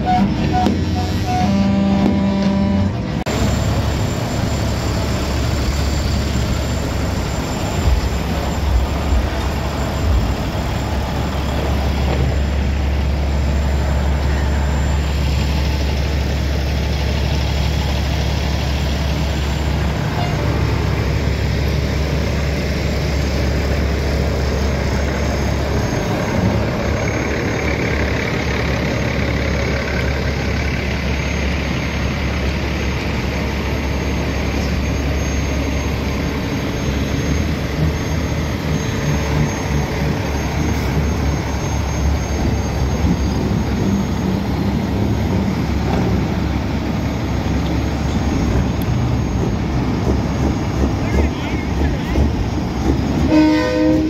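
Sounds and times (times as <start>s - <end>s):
diesel truck engines idling: 0.0s - 54.0s.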